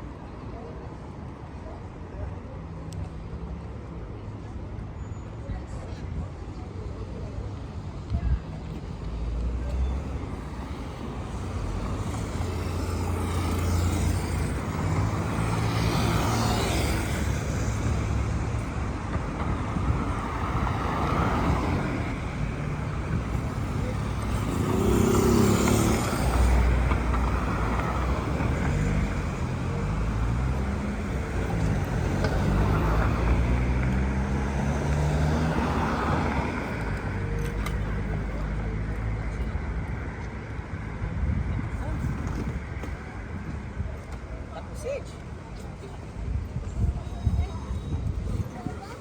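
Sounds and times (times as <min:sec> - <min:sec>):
traffic passing: 0:00.0 - 0:49.0.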